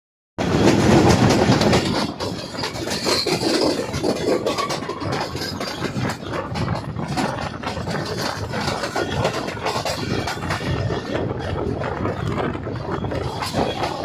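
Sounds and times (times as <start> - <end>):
train wheels clattering on rails: 0.4 - 14.0.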